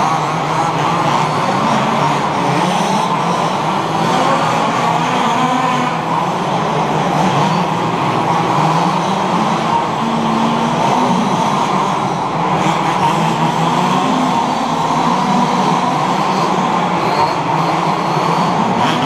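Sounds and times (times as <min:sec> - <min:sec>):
small petrol engines buzzing: 0:00.0 - 0:19.0.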